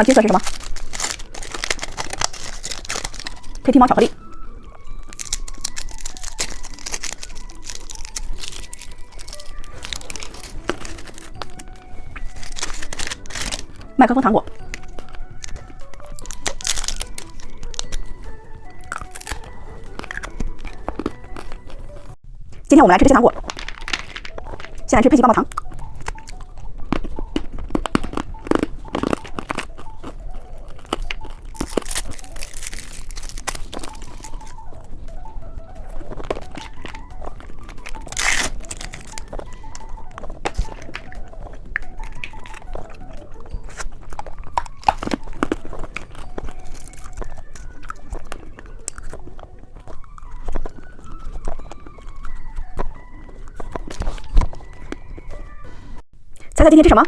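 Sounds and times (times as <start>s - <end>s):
plastic packaging crinkling: 0.0s - 3.7s, 4.7s - 22.2s, 23.4s - 24.9s, 25.5s - 55.5s
crunching hard candy: 0.0s - 22.2s, 23.0s - 56.0s.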